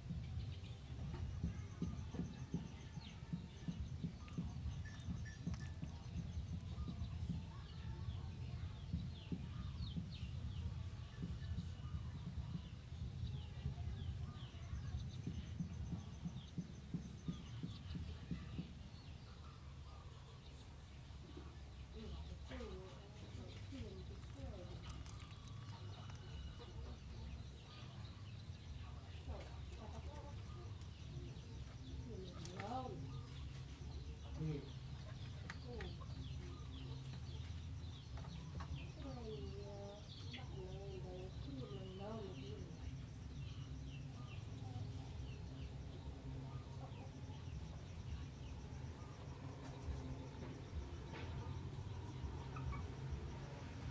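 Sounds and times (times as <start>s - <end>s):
chickens peeping and chirping: 0.0s - 53.9s.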